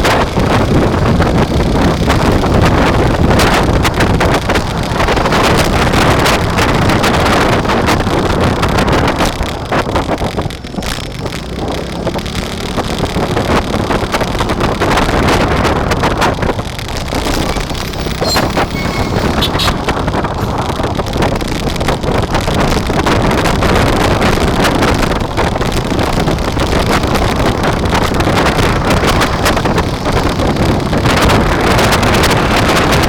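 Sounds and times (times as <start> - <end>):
steady rumble: 0.0 - 33.0
wind buffeting microphone: 0.0 - 33.0.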